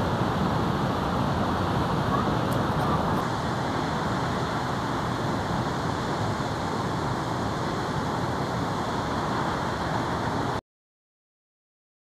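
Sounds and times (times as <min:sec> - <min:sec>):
steady rushing noise: 0:00.0 - 0:10.6.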